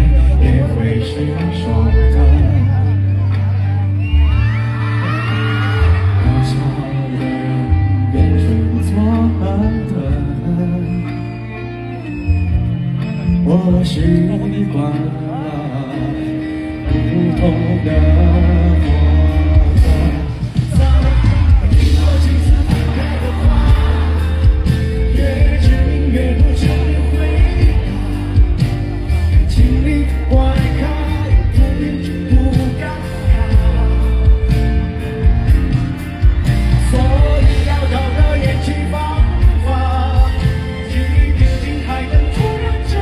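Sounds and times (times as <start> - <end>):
person singing: 0.0 - 11.5, 13.3 - 43.0
pop-rock band playing: 0.0 - 43.0.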